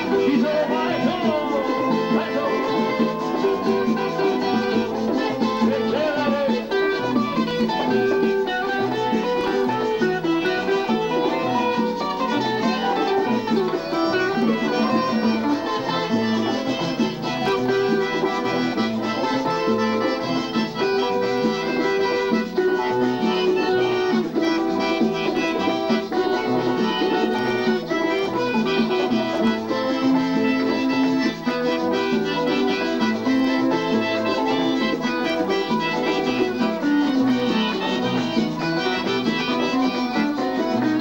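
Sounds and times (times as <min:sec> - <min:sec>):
accordion lead melody: 0:00.0 - 0:41.0
live band music: 0:00.0 - 0:41.0.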